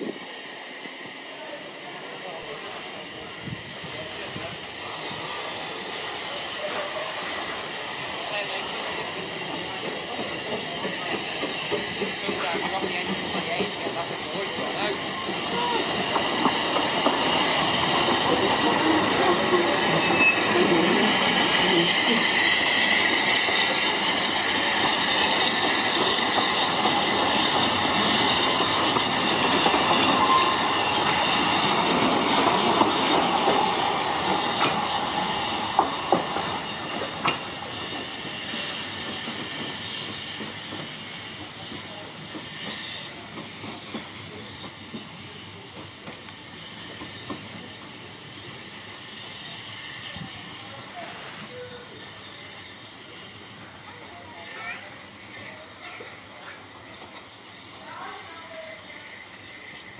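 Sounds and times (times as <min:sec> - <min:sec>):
steam train passing: 0:00.0 - 0:59.9.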